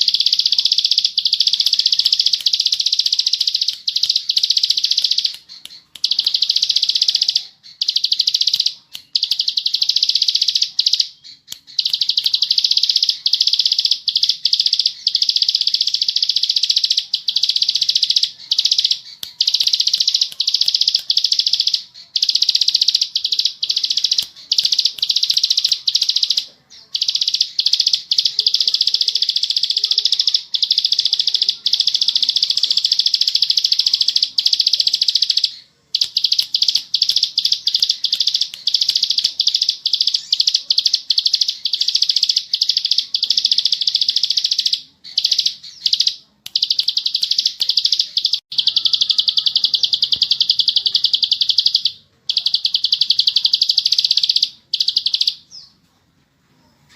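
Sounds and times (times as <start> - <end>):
bird singing buzzy trill: 0.0 - 55.8.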